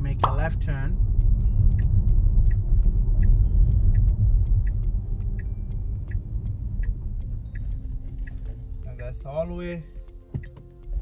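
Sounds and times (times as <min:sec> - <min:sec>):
road rumble inside car cabin: 0:00.0 - 0:11.0
turn signal indicator ticking: 0:00.0 - 0:11.0.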